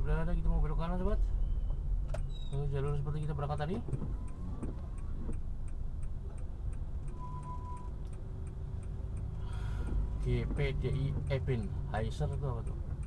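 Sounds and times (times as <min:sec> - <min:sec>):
engine and tyre rumble: 0:00.0 - 0:13.0
turn signal ticking: 0:00.0 - 0:13.0.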